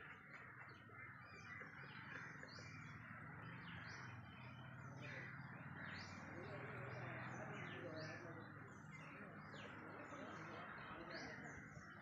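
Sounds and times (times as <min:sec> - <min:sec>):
chorus of birds calling: 0:00.0 - 0:12.0.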